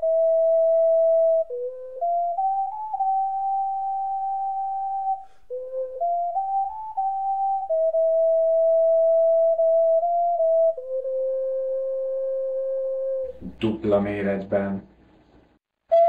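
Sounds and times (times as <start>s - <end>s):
ocarina melody: 0.0s - 14.2s.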